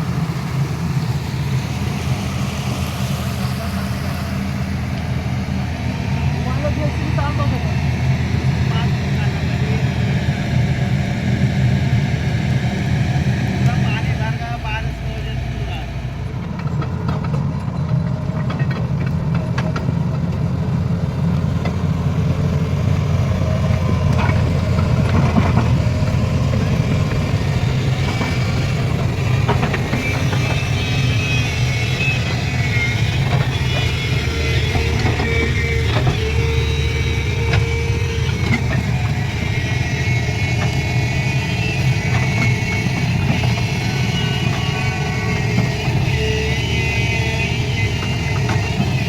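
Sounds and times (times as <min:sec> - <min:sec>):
heavy vehicle engine rumbling: 0:00.0 - 0:49.0.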